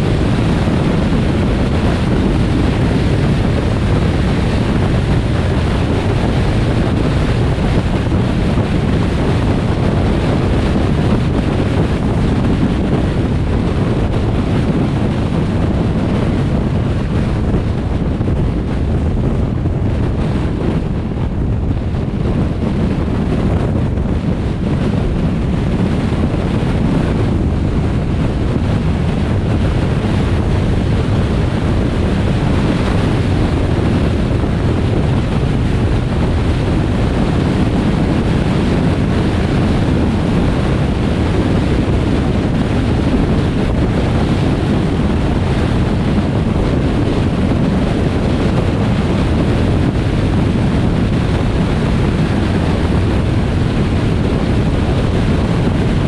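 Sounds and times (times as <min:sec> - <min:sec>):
car road and wind noise: 0:00.0 - 0:56.0.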